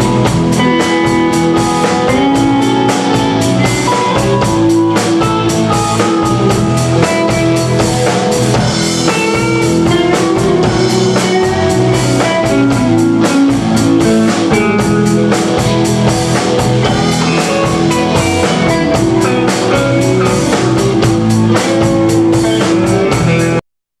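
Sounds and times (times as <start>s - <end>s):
bass guitar: 0.0s - 23.6s
drum kit beat: 0.0s - 23.6s
electric guitars: 0.0s - 23.6s.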